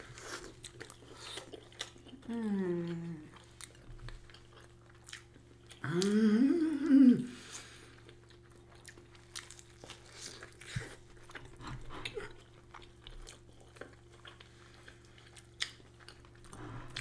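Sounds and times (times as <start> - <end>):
chewing and biting food: 0.0 - 6.0, 7.5 - 17.0
faint steady hum: 0.0 - 17.0.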